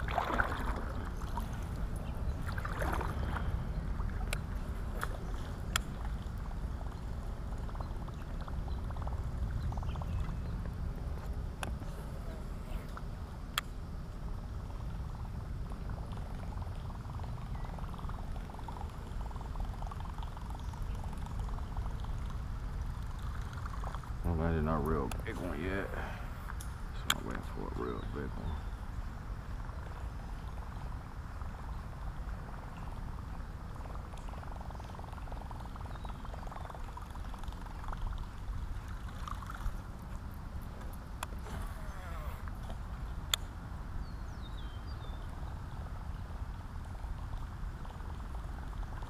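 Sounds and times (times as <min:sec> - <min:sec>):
water gurgling against kayak hull: 0:00.0 - 0:13.2, 0:14.4 - 0:43.2
wind rumble on microphone: 0:00.0 - 0:49.0.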